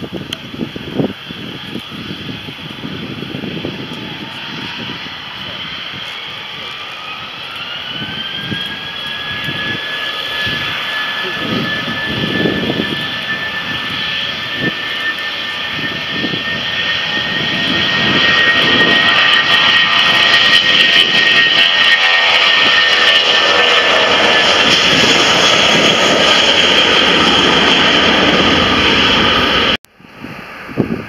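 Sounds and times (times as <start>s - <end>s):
jet engines at takeoff: 0.0s - 31.0s.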